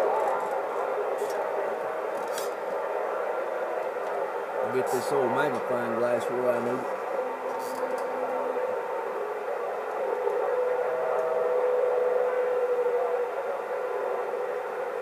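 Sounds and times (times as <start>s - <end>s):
radio static hiss: 0.0s - 15.0s
steady whistling tone: 0.0s - 15.0s.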